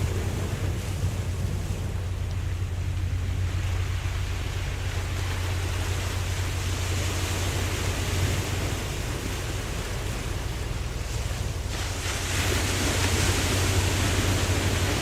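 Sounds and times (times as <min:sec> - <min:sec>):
low rumble: 0:00.0 - 0:15.0
ocean waves washing: 0:00.0 - 0:15.0.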